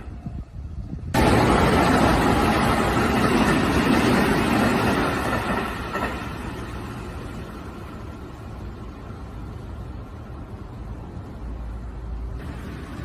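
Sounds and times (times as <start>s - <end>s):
electric train wheels rumbling: 0.0s - 13.0s.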